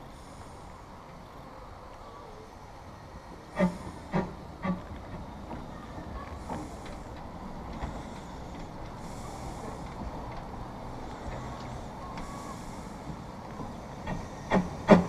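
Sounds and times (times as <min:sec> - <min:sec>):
soft steam hisses: 0:00.0 - 0:15.0
steam locomotive rumbling: 0:00.0 - 0:15.0.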